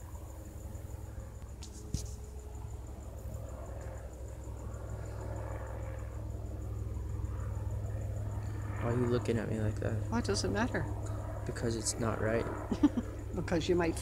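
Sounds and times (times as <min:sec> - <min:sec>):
crickets chirping: 0:00.0 - 0:14.0
steady low rumble: 0:00.0 - 0:14.0.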